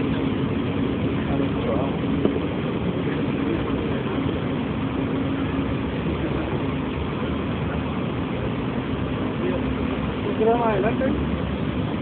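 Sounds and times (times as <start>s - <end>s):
model boat motor humming: 0.0s - 12.0s
rushing noise: 0.0s - 12.0s.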